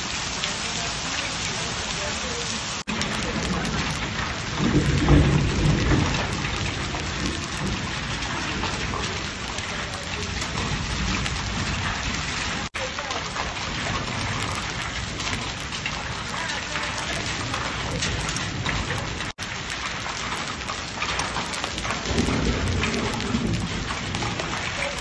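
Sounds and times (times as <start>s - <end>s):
heavy rain splashing on concrete: 0.0s - 25.0s
low rumble of thunder: 0.0s - 25.0s.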